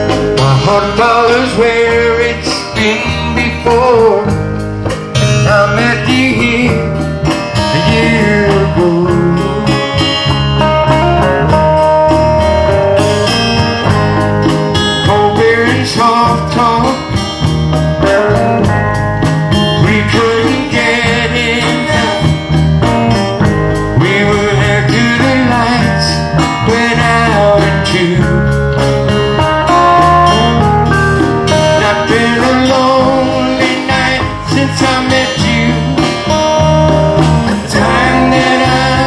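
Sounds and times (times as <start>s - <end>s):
country-rock song: 0.0s - 39.0s.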